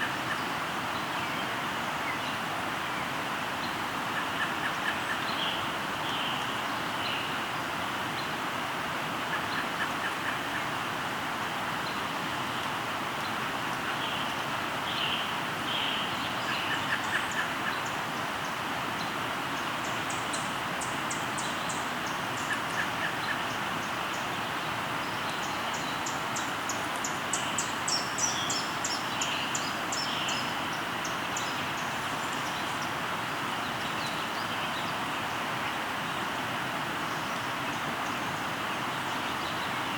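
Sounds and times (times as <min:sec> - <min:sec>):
songbird singing: 0:00.0 - 0:08.4, 0:11.7 - 0:39.9
river water flowing: 0:00.0 - 0:39.9.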